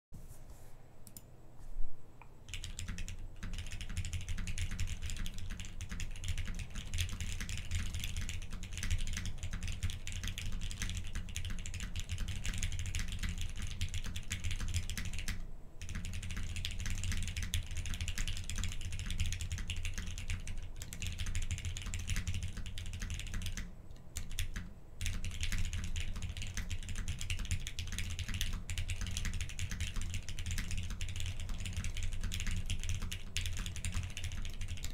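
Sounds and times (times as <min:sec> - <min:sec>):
fast mechanical keyboard typing: 0:02.5 - 0:34.9.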